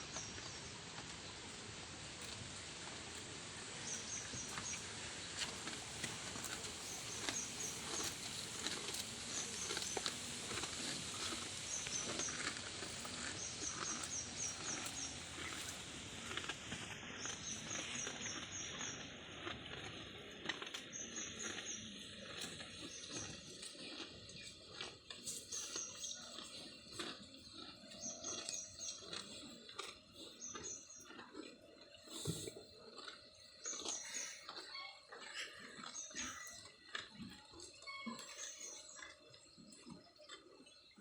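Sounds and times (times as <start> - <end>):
outdoor background noise: 0.0 - 41.0
grass tearing and chewing: 2.0 - 40.8.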